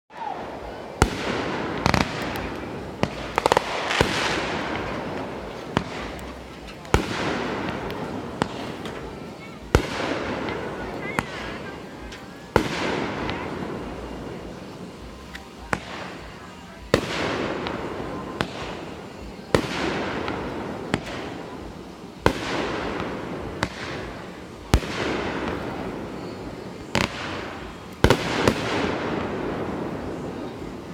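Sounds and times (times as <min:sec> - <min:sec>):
fireworks bangs: 0:00.1 - 0:30.9
fireworks crackling: 0:00.1 - 0:30.9.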